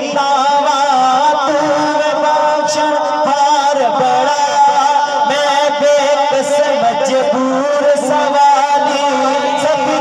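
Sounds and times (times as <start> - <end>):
men singing through microphones: 0.0 - 10.0.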